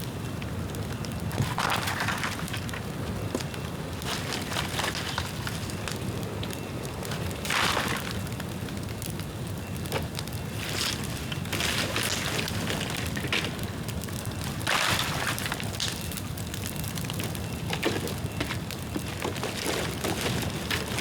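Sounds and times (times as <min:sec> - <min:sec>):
bonfire crackling and popping: 0:00.0 - 0:21.0
fire flaring with hissing: 0:00.0 - 0:21.0.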